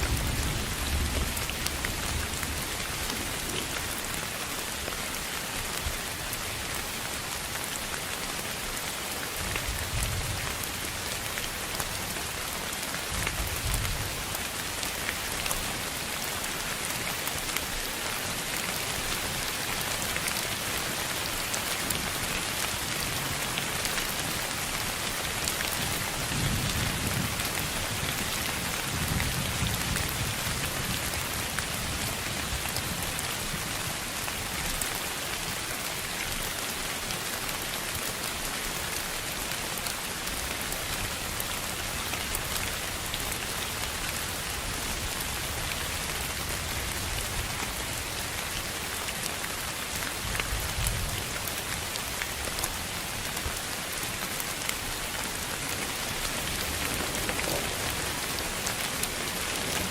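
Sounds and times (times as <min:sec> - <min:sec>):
rain-like hiss: 0:00.0 - 0:59.9.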